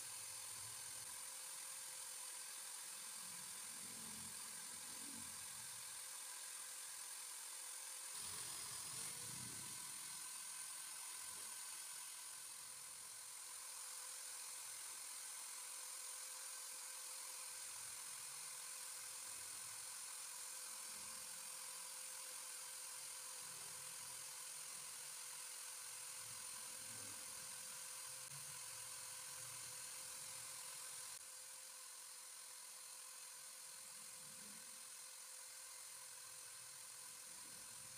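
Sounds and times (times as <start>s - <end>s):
electric hand drill running: 0.0s - 31.2s.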